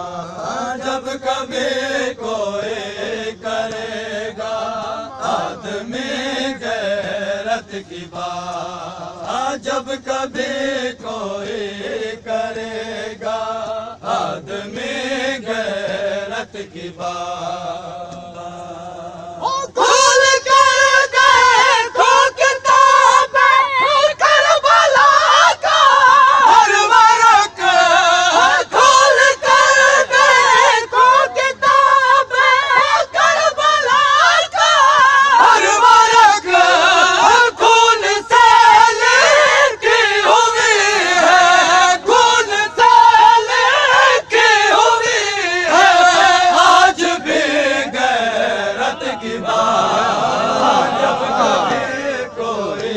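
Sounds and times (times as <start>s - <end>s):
men chanting a lament: 0.0s - 52.9s.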